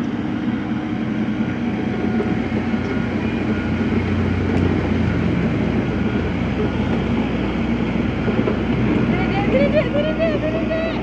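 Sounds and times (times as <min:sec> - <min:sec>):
heavy engine rumbling: 0:00.0 - 0:11.0.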